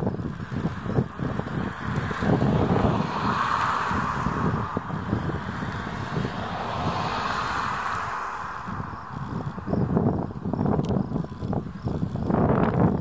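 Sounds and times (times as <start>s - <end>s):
steady rushing noise: 0.0s - 13.0s
wind buffeting microphone: 0.0s - 13.0s.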